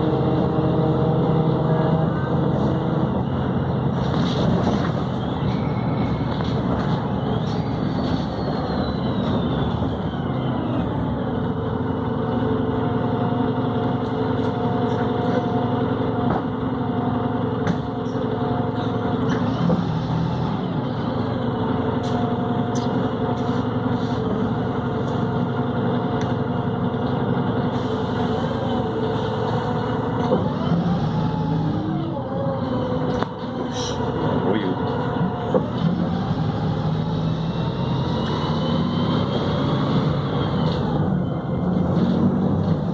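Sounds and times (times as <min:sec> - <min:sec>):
bus diesel engine drone: 0:00.0 - 0:42.9.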